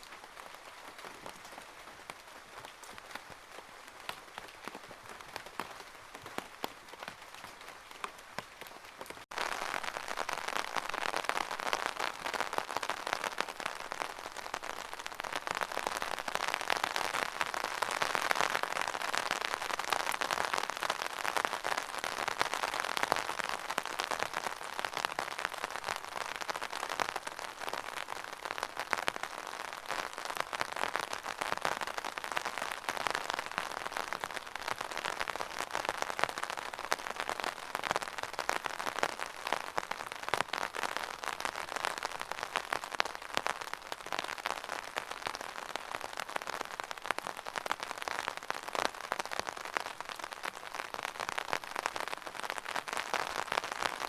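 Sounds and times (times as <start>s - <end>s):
rain pattering in a gutter: 0.0s - 54.0s.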